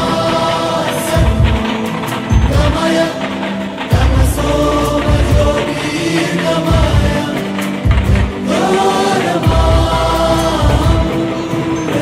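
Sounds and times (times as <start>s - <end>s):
sung melody: 0.0s - 12.0s
low beat: 1.1s - 11.3s.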